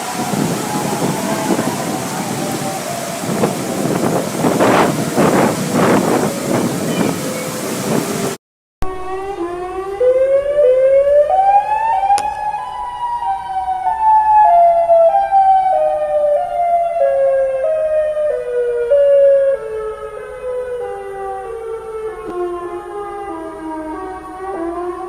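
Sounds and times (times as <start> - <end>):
tornado warning siren: 0.0 - 25.0.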